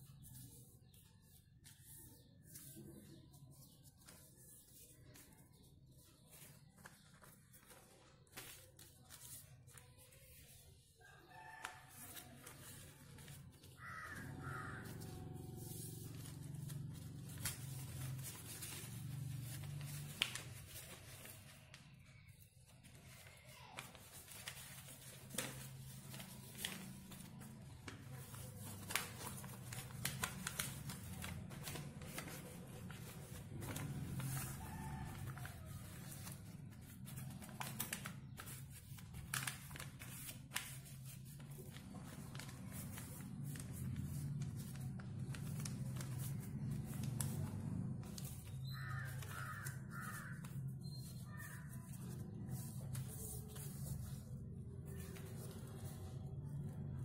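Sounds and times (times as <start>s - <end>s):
paper being folded: 0.0s - 57.0s.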